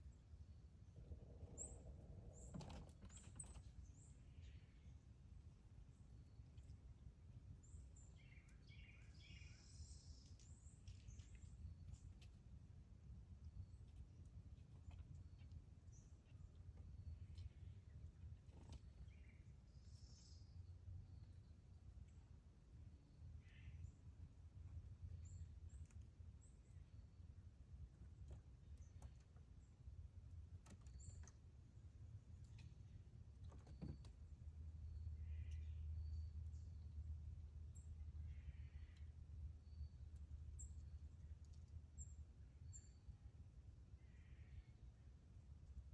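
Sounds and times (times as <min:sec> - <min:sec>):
faint bird chirps and trills: 0:00.0 - 0:45.9
low outdoor rumble: 0:00.0 - 0:45.9
low steady hum: 0:00.0 - 0:45.9.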